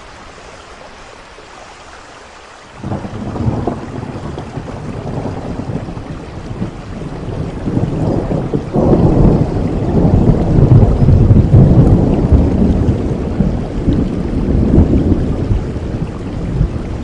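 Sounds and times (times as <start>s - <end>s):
steady rain: 0.0s - 17.0s
rolling thunder rumble: 2.8s - 17.0s.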